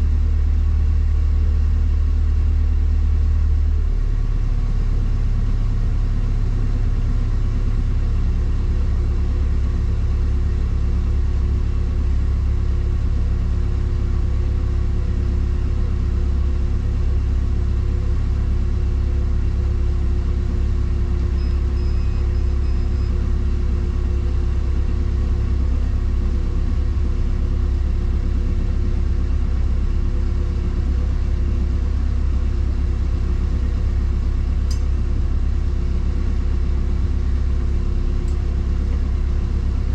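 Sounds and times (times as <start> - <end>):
boat engine low rumble: 0.0 - 39.9.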